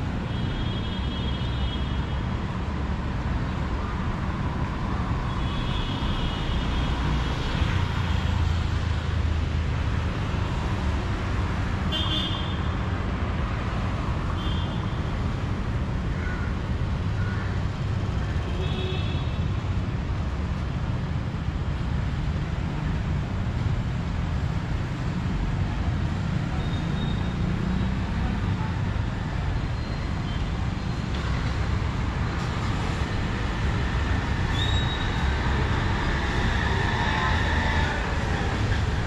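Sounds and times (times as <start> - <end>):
rumble of passing vehicles: 0.0 - 39.0.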